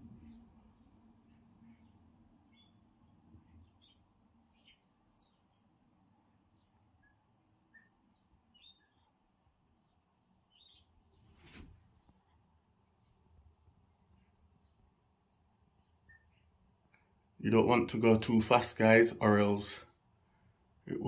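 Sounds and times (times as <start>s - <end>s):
faint bird chirps: 0.1s - 17.2s.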